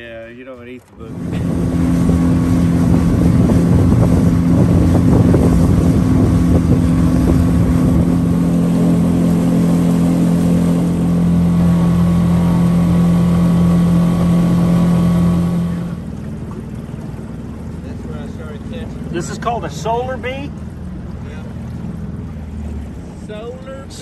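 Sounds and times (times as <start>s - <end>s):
boat motor running: 0.0s - 24.0s
water rushing along hull: 0.0s - 24.0s.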